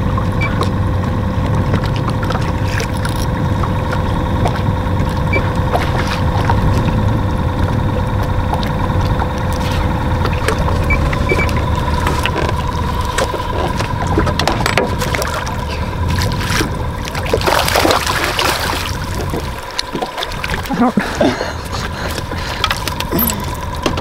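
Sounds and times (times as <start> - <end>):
electric trolling motor whine: 0.0 - 24.0
wind and water rumble: 0.0 - 24.0
fish splashing: 0.2 - 23.8.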